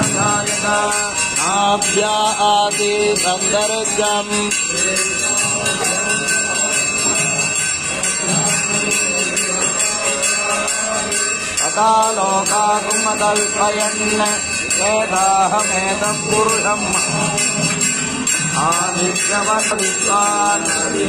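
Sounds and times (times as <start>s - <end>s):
devotional music: 0.0s - 21.0s
hand bell ringing: 0.0s - 21.0s.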